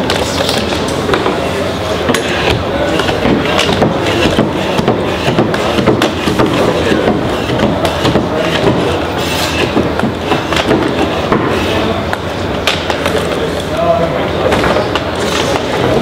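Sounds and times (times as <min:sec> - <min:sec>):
tool knocks and scrapes: 0:00.0 - 0:13.4, 0:14.4 - 0:16.0
steady hall din: 0:00.0 - 0:16.0.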